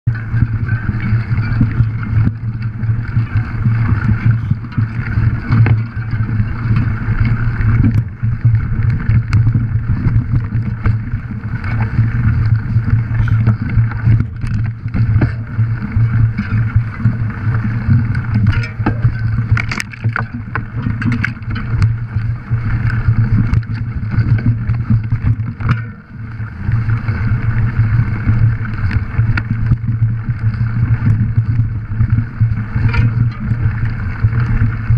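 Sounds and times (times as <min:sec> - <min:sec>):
bike low drone: 0:00.1 - 0:34.9
bike rattling and knocks: 0:00.1 - 0:34.9.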